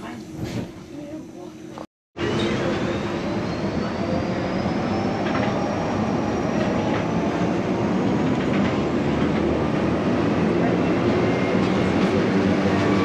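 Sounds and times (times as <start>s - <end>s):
train rumbling: 2.2s - 13.0s.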